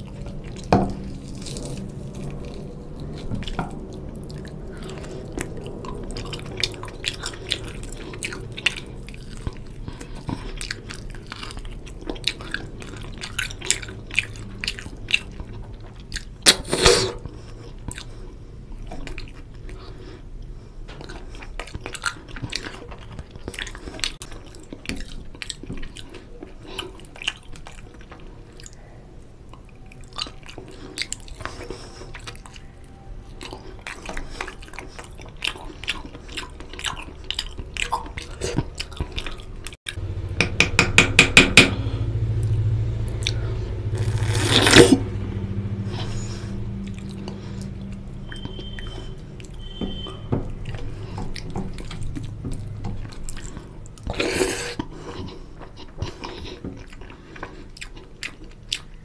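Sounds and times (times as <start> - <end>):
chewing with wet mouth clicks: 0.0 - 16.6, 17.2 - 40.0, 43.1 - 43.4, 45.9 - 59.0.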